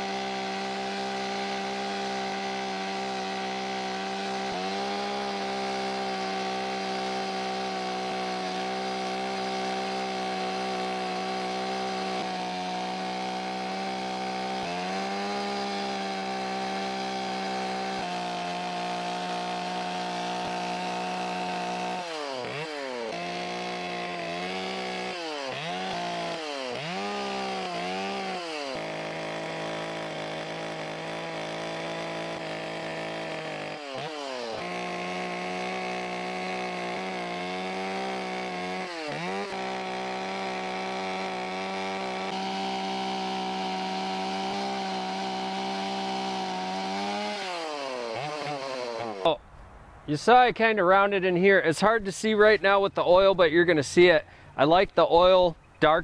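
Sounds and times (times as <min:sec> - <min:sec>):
chainsaw carving wood: 0:00.0 - 0:49.4, 0:50.1 - 0:54.8.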